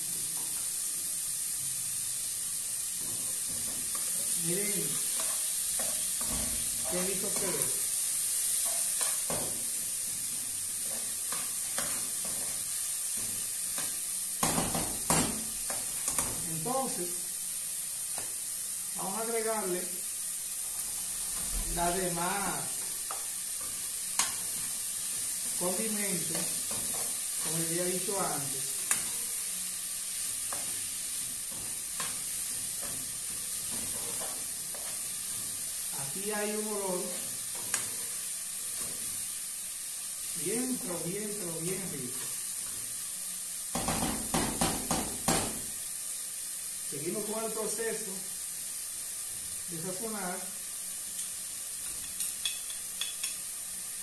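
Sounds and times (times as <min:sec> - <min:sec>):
onion and garlic sizzling in oil: 0:00.0 - 0:54.0.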